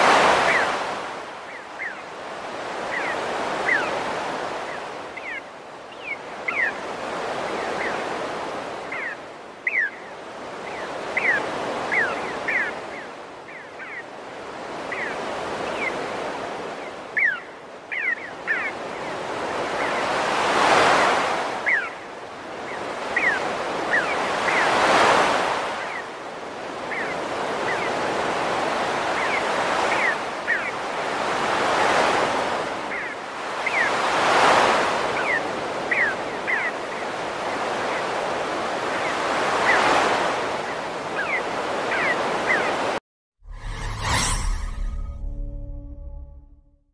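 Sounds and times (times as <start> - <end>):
sea surf washing on shore: 0.0 - 43.0
thin bird calls: 0.3 - 0.8, 1.4 - 2.1, 2.8 - 8.2, 8.8 - 26.2, 26.8 - 32.2, 32.8 - 38.3, 38.9 - 42.8.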